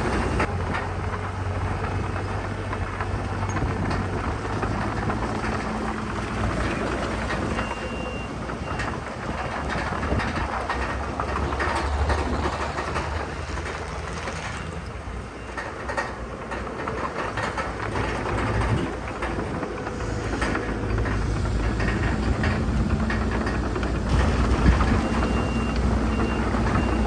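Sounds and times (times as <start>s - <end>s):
clanking and rattling: 0.0s - 27.0s
diesel engine rumble: 0.0s - 27.0s.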